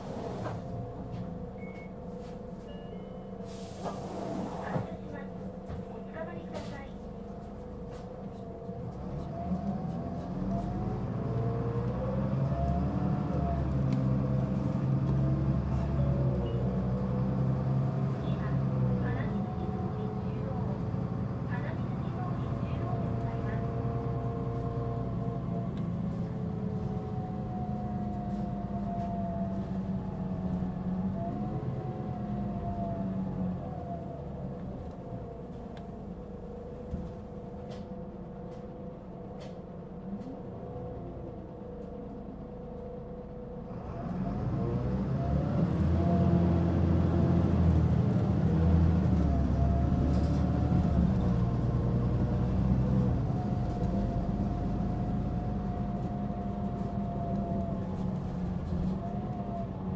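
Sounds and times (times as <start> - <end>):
bus diesel engine under load: 0.0 - 59.9.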